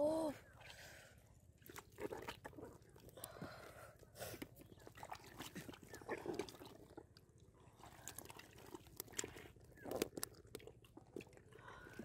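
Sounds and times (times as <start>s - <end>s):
hands squelching wet mud: 0.6s - 12.0s.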